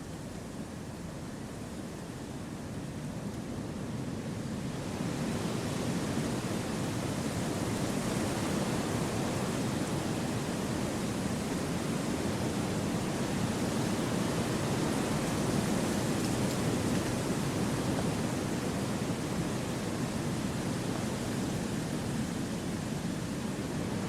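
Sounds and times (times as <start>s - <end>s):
wind rushing through trees: 0.0s - 24.0s.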